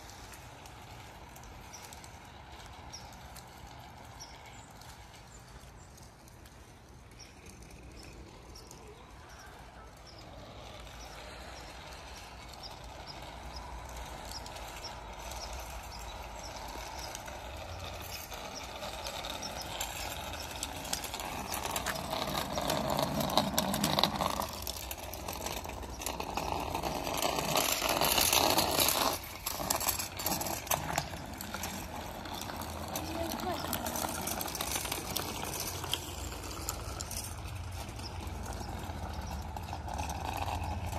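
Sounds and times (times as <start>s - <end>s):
bicycle tyres hissing on wet asphalt: 0.0s - 40.9s.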